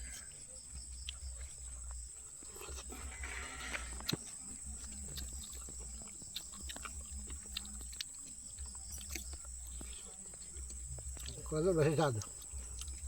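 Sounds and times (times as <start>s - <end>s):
chewing and mouth smacking: 0.0s - 13.0s
steady low hum: 0.0s - 13.0s.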